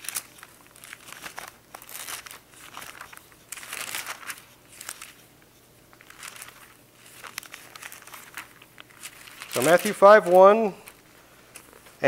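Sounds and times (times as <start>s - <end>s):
thin paper pages rustling: 0.0s - 12.0s.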